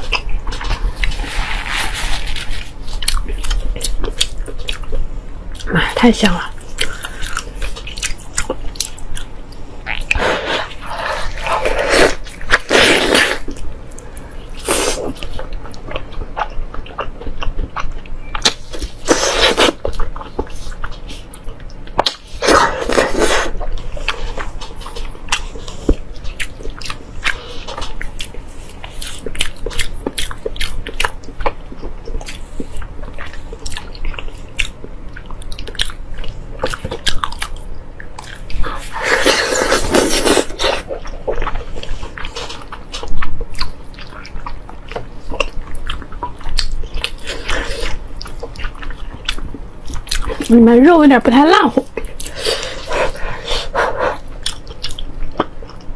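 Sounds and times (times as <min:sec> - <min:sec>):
person chewing wetly: 0:00.0 - 0:05.8, 0:06.6 - 0:50.6, 0:51.8 - 0:55.9.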